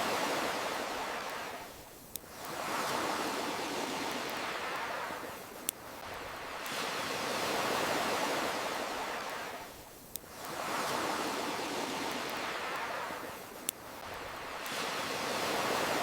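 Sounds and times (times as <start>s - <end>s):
campfire crackle: 0.0s - 16.0s
ocean waves washing: 0.0s - 16.0s.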